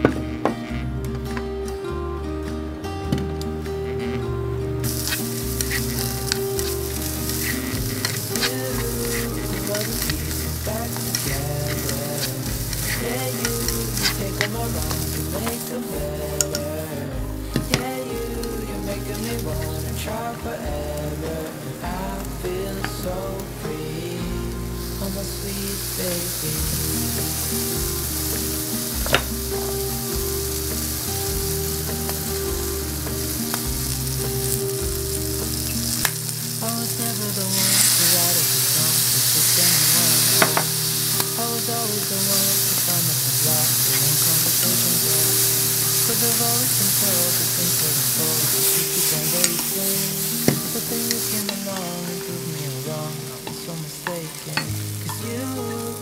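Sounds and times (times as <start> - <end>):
vegetables sizzling in frying pan: 4.8 - 56.0.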